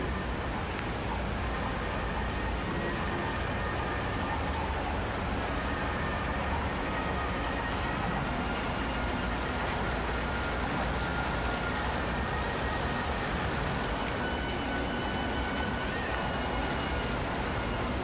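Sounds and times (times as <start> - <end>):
low rumble of traffic: 0.0 - 18.0
stream rushing over rocks: 0.0 - 18.0.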